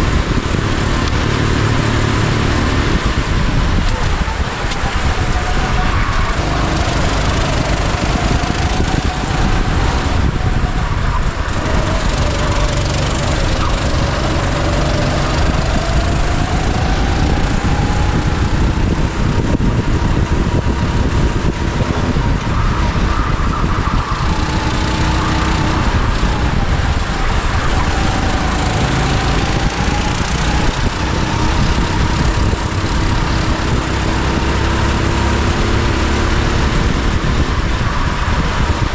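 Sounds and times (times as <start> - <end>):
go-kart engine revving: 0.0 - 38.9
steady rush of noise: 0.0 - 38.9.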